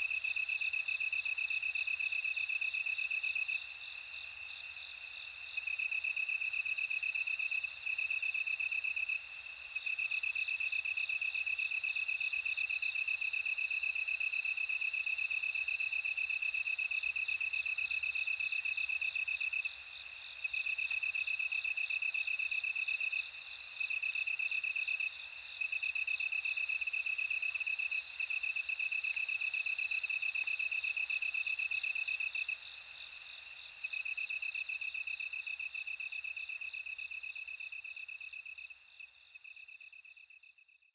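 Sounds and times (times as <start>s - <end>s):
higher pulsed insect song: 0.0s - 21.1s, 22.4s - 40.6s
crickets trilling: 0.0s - 40.4s.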